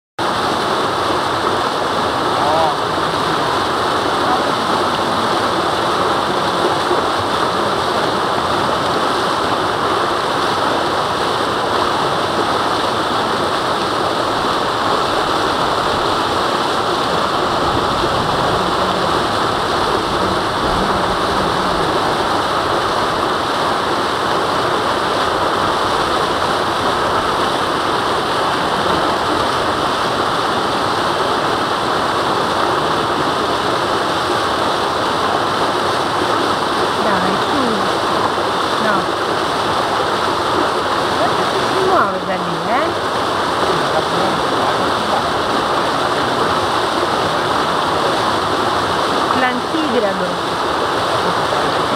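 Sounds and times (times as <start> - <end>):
stream rushing over rocks: 0.2 - 51.9.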